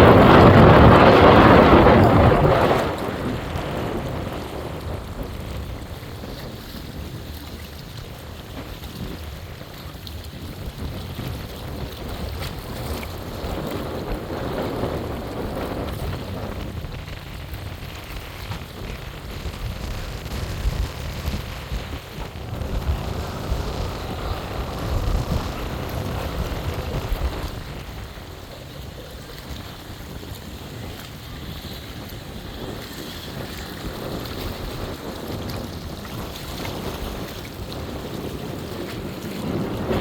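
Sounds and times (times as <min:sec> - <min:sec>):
water washing: 0:00.0 - 0:40.0
wind rumbling on microphone: 0:00.0 - 0:40.0.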